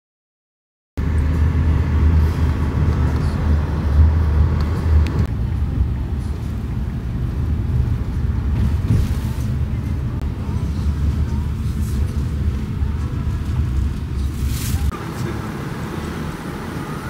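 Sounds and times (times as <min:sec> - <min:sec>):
car driving on concrete road: 0:01.0 - 0:17.0.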